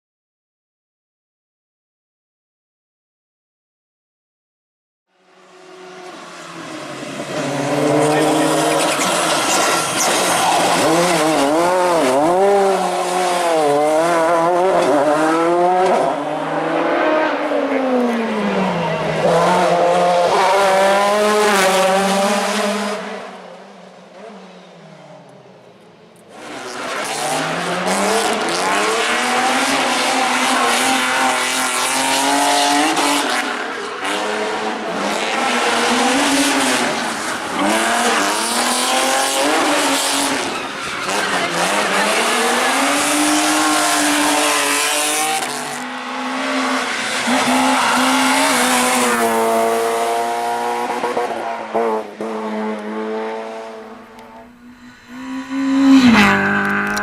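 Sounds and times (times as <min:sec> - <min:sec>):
rally car engines revving: 0:05.5 - 0:25.5, 0:26.2 - 0:57.0.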